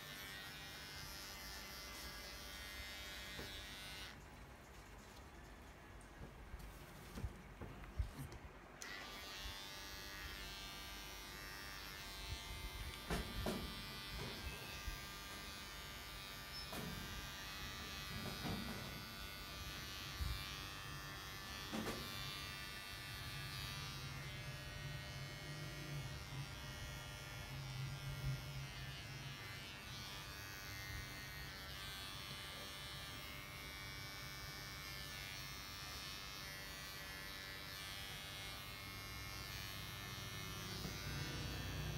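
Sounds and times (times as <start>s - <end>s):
electric clippers buzzing: 0.0s - 4.2s, 8.8s - 41.9s.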